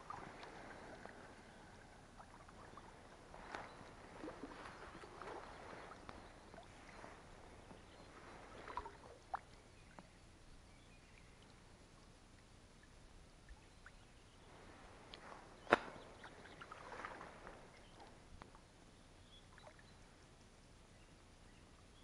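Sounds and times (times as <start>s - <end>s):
oars pulling through water: 0.0s - 12.0s, 13.4s - 20.2s.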